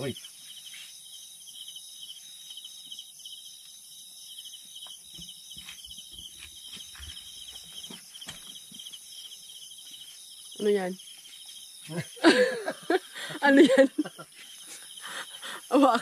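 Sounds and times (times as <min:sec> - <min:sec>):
insects chirping in pulsed trains: 0:00.0 - 0:16.0.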